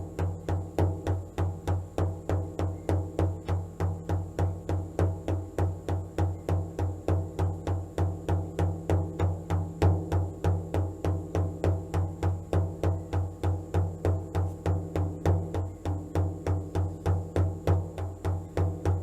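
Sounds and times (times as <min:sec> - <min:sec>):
drum beaten in steady rhythm: 0:00.0 - 0:19.0.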